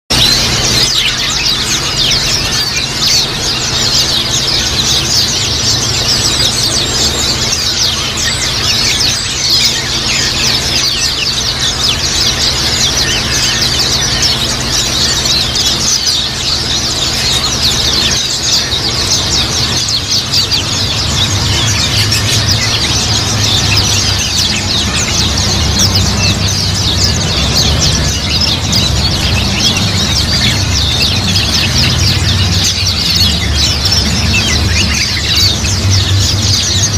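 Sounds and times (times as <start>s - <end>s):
birds chirping and chattering: 0.1s - 36.9s.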